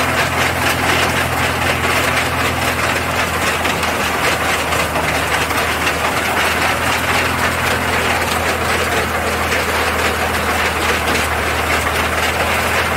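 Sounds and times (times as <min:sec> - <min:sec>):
gears and rollers grinding: 0:00.0 - 0:12.9
low engine hum: 0:00.0 - 0:12.9.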